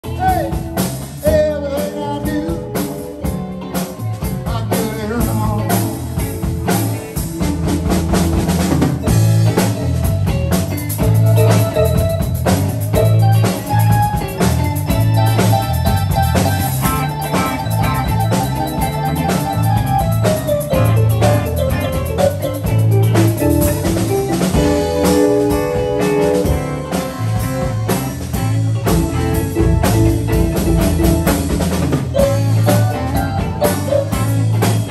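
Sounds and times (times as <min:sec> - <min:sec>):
blues band playing: 0:00.0 - 0:34.9.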